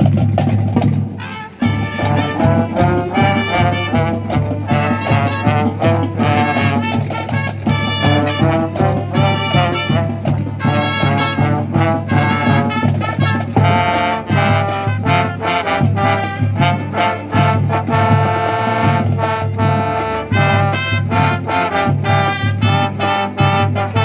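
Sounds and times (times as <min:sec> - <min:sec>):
drumline steady beat: 0:00.0 - 0:24.0
marching band brass: 0:00.0 - 0:24.0.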